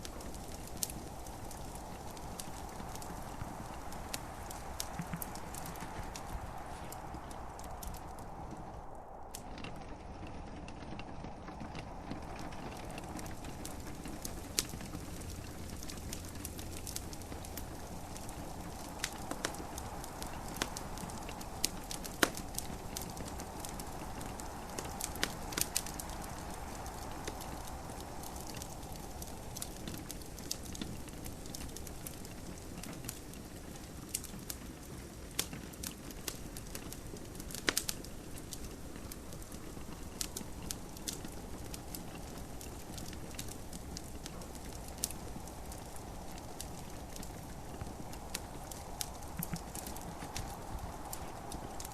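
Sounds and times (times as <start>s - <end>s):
gentle rain hissing: 0.0s - 51.9s
wood fire crackling and popping: 0.0s - 51.9s.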